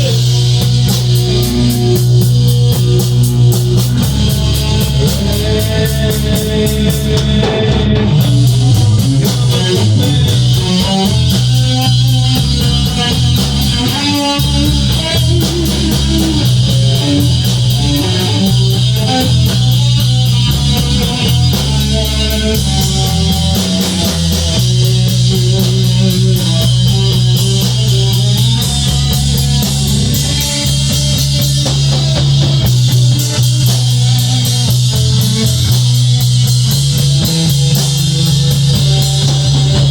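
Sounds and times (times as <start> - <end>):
bass guitar: 0.0 - 39.9
drum kit: 0.0 - 39.9
guitar: 0.0 - 39.9.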